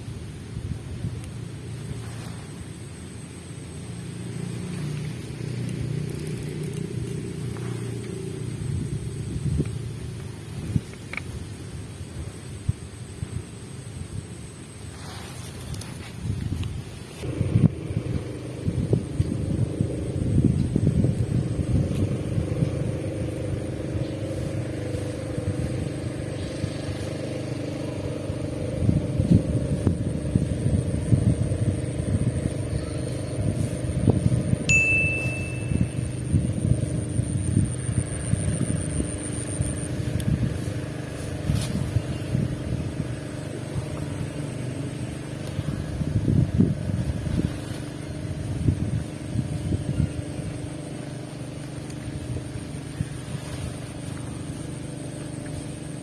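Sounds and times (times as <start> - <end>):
steady low hum: 0.0 - 56.0
wind buffeting microphone: 5.1 - 56.0.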